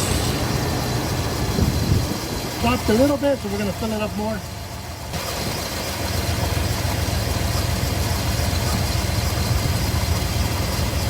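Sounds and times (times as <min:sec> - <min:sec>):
vee eight engine idling: 0:00.0 - 0:11.0.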